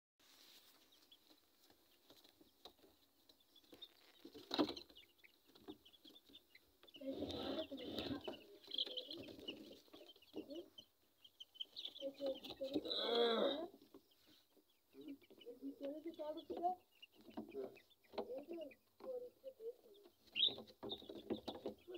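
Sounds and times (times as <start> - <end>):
chicks peeping and clucking: 0.4 - 21.9.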